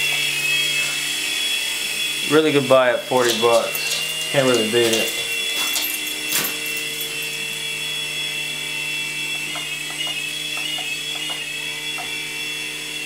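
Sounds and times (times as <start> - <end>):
toy helicopter motor whine: 0.0 - 13.0.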